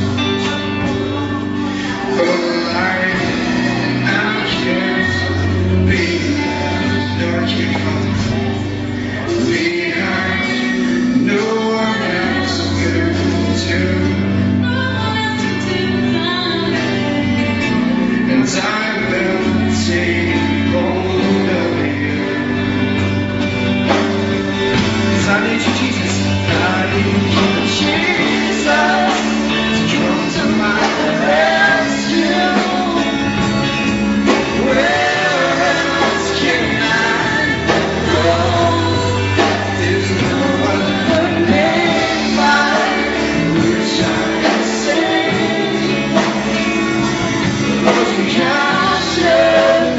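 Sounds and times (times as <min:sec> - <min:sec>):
gospel singers with band: 0:00.0 - 0:49.9
sustained bass: 0:00.0 - 0:49.9.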